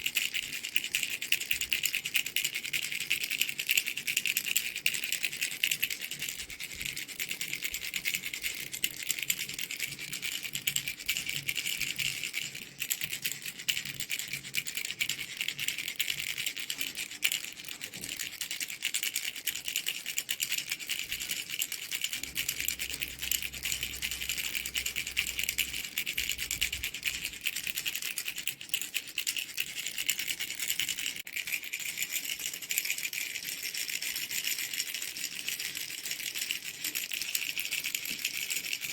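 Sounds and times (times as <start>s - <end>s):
baby rattle shaken: 0.0s - 38.9s.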